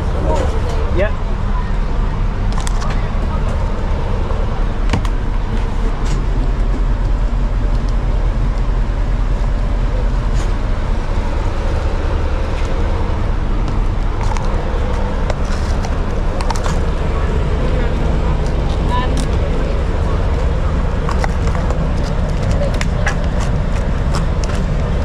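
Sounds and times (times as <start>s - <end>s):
van engine humming: 0.0s - 25.0s.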